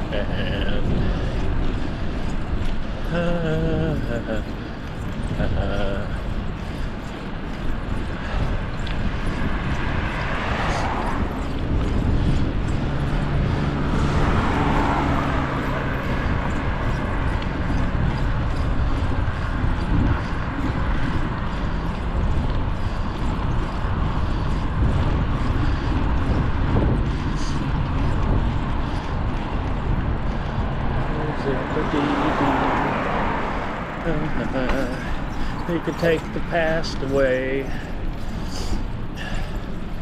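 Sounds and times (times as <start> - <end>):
road traffic: 0.0 - 40.0
wind rushing over microphone: 0.0 - 40.0.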